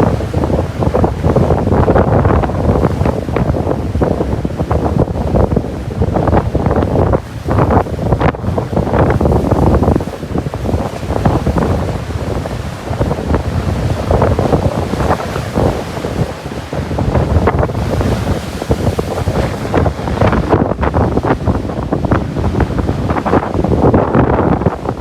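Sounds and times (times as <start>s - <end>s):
surf breaking on beach: 0.0s - 25.0s
wind buffeting the microphone: 0.0s - 25.0s.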